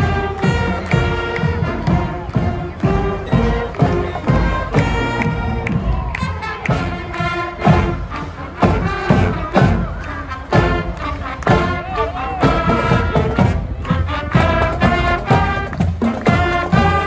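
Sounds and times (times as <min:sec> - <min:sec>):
drum beat: 0:00.0 - 0:17.0
horns and saxophones: 0:00.0 - 0:17.0.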